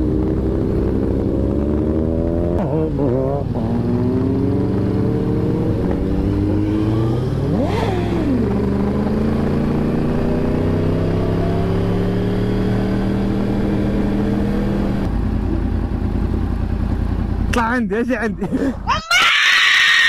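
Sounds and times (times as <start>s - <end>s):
motorcycle engine revving: 0.0s - 17.6s
motorcycle engine running: 0.0s - 18.9s.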